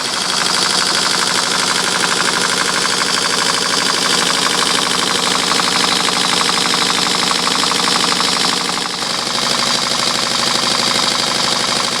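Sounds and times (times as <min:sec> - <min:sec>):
steam engine exhaust beating: 0:00.0 - 0:12.0.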